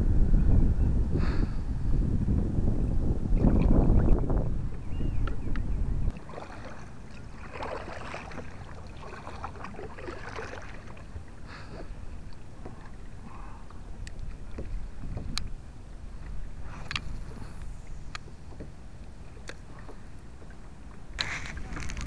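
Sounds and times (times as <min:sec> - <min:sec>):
wind rumble on microphone: 0:00.0 - 0:22.0
small waves lapping against hull: 0:03.3 - 0:22.0.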